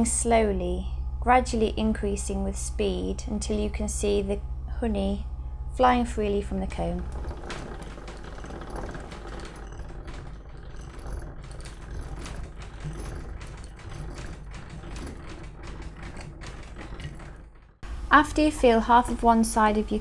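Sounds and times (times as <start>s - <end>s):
honey extractor gearing whirring: 0.0s - 20.0s.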